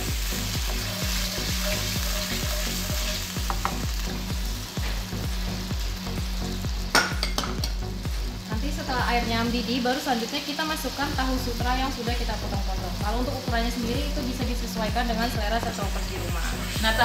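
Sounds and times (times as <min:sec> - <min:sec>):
meat sizzling in a wok: 0:00.0 - 0:17.0.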